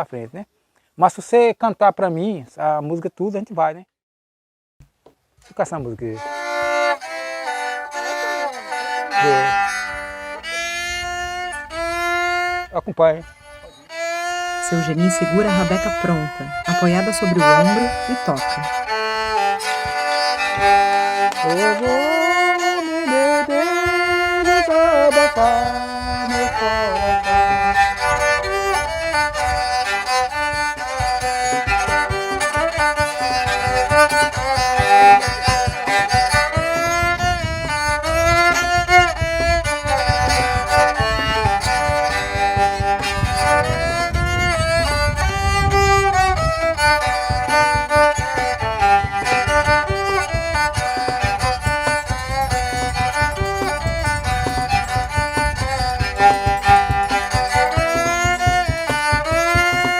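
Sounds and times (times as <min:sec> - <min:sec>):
bowed fiddle tune: 0:05.4 - 0:59.9
low rhythmic thumping: 0:06.2 - 0:59.9.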